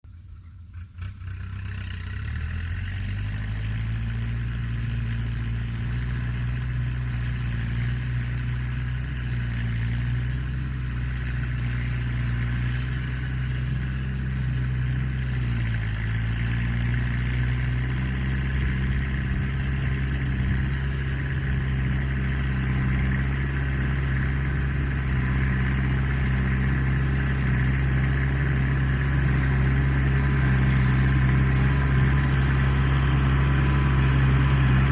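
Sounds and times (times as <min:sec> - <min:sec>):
tractor diesel engine rumbling: 0:00.0 - 0:34.9.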